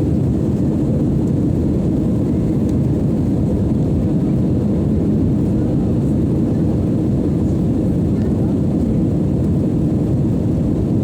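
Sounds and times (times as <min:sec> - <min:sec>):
jet airliner low rumble: 0:00.0 - 0:11.0.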